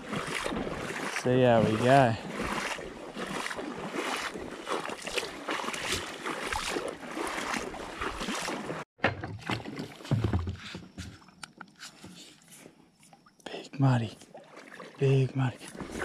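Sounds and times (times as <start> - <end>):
footsteps sloshing through water and mud: 0.0 - 13.4, 14.0 - 16.0.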